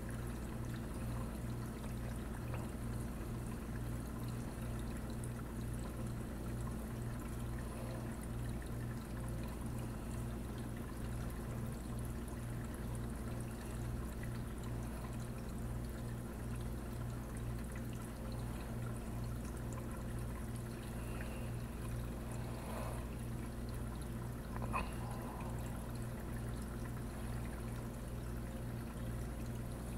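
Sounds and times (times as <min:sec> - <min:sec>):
aquarium pump hum: 0:00.0 - 0:29.9
water flowing and trickling: 0:00.0 - 0:29.9.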